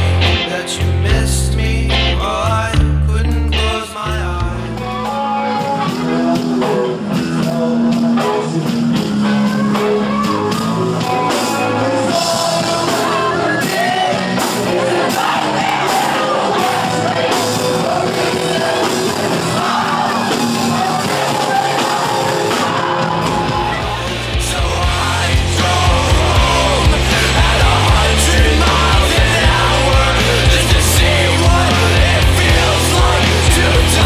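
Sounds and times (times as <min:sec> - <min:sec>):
electric guitars: 0:00.0 - 0:34.0
shouted singing: 0:03.6 - 0:34.0
steady drum beat: 0:04.4 - 0:34.0.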